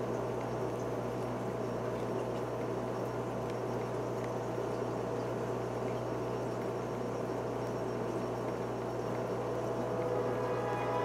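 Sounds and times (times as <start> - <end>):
aquarium equipment humming: 0.0 - 11.0.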